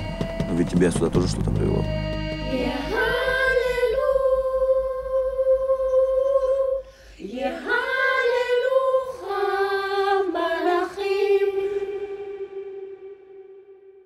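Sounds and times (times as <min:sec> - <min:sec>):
girls singing a cappella: 0:01.8 - 0:13.5.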